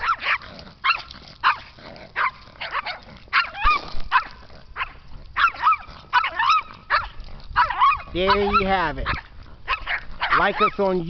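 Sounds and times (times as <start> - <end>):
animal yelping: 0.0 - 10.9.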